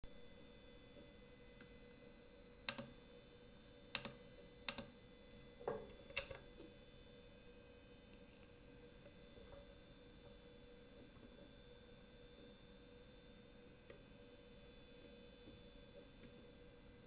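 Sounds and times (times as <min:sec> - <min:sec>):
faint electronic whine: 0:00.0 - 0:17.0.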